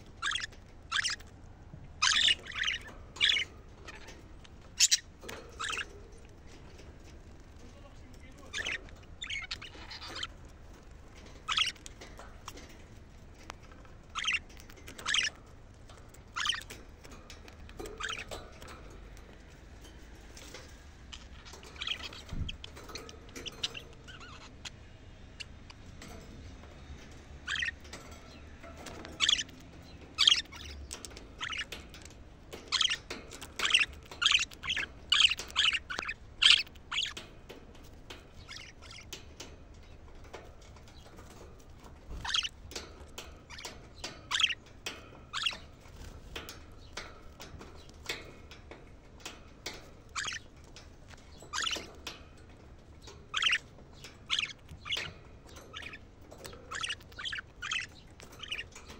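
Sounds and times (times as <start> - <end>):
budgerigars chirping: 0.0 - 1.4, 2.0 - 6.8, 8.1 - 10.5, 11.2 - 12.8, 13.7 - 15.4, 16.1 - 18.9, 20.4 - 24.8, 25.4 - 41.4, 42.1 - 48.4, 49.2 - 52.2, 53.0 - 58.9.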